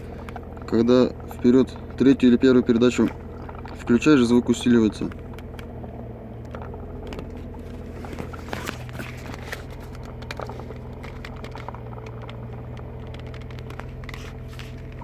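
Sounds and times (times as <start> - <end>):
engine idling hum: 0.0 - 15.0
gearbox grinding and clicking: 0.0 - 15.0.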